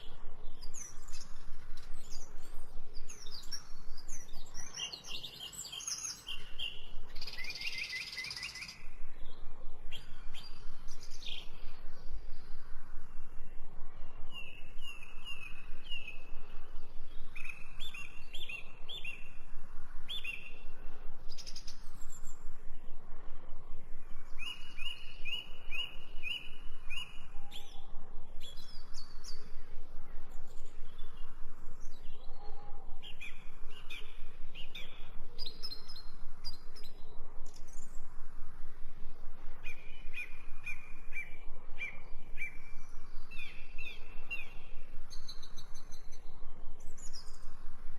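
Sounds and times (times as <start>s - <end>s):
steady low hum: 0.0s - 5.1s, 6.3s - 7.7s, 8.7s - 47.9s
songbirds chirping: 0.0s - 47.9s.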